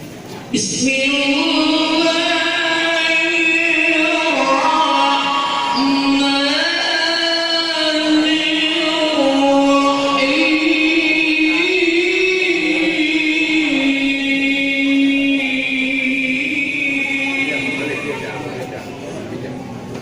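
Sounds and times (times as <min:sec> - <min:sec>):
person reciting in melismatic chant: 0:00.5 - 0:19.2.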